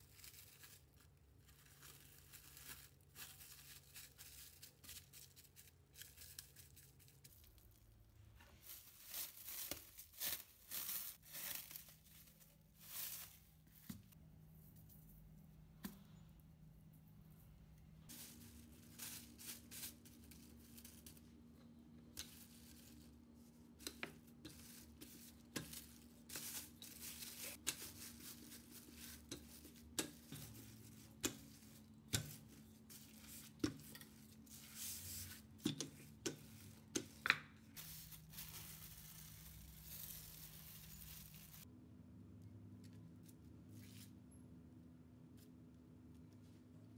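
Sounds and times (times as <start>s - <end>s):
plastic film crinkling: 0.0s - 14.2s, 18.1s - 41.7s.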